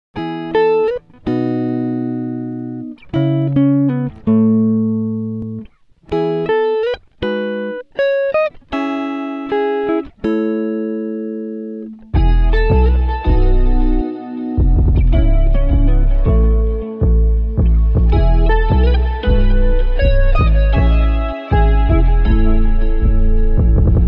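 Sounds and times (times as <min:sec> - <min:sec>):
plucked guitar music: 0:00.2 - 0:24.0.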